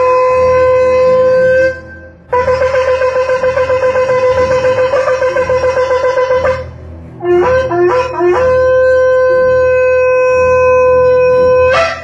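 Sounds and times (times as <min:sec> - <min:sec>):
shofar blasts: 0:00.0 - 0:12.0.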